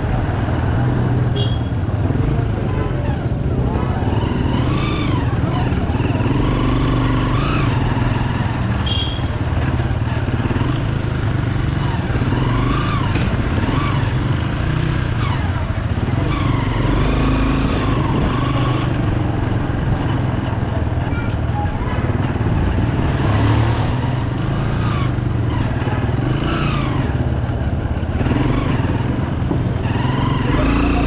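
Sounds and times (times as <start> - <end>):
motorcycle engine running: 0.0 - 31.0
road and wind noise: 0.0 - 31.0.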